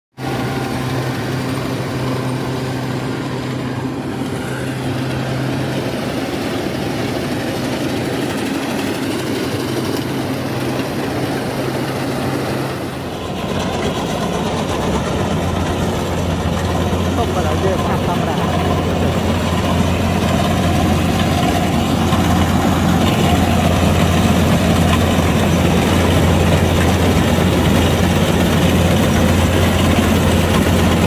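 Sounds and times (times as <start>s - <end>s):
diesel engine humming: 0.2s - 31.0s.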